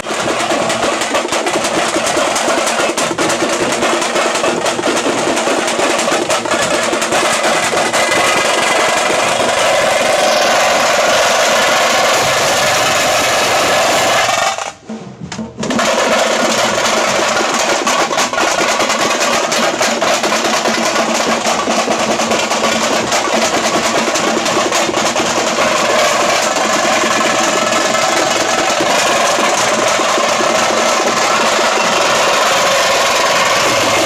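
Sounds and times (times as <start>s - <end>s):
frame drums rolling rhythm: 0.0s - 34.0s.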